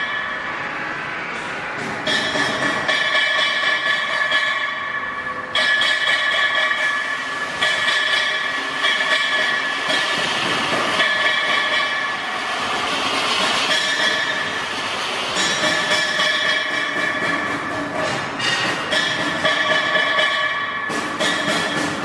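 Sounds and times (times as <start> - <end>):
high-pitched machine whine: 0.0 - 22.0
noisy rush: 0.0 - 22.0.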